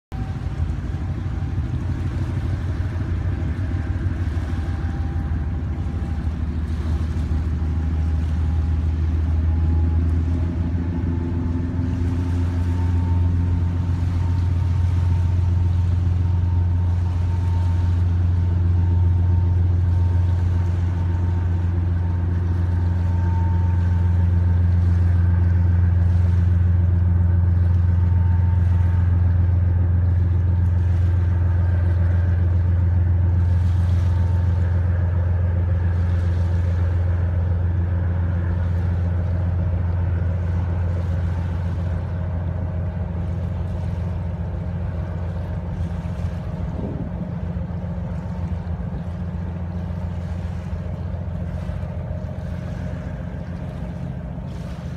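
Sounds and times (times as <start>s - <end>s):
faint high whine: 0.1s - 54.9s
ferry engines droning: 0.1s - 54.9s.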